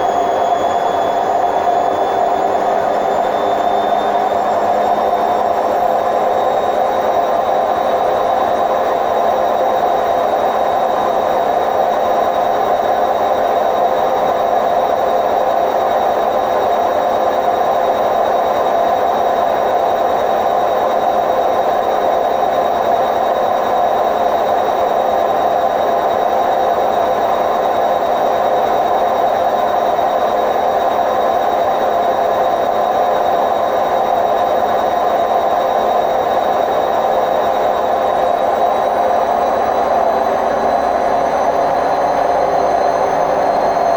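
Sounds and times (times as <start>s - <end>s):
washing machine spinning: 0.0s - 43.9s.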